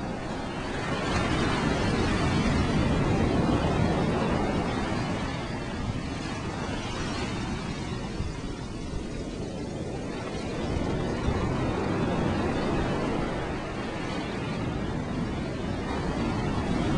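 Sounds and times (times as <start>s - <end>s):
ocean waves washing on beach: 0.0s - 16.9s
wind rumble on microphone: 0.0s - 16.9s.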